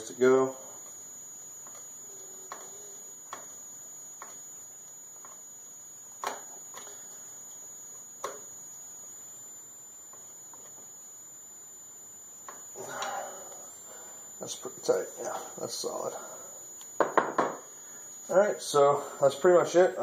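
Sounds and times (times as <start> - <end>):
steady high-pitched whine: 0.0 - 20.0.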